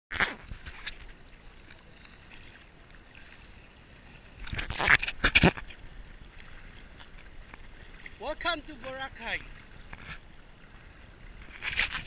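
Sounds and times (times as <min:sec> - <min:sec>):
sea water lapping and sloshing: 0:00.1 - 0:12.0.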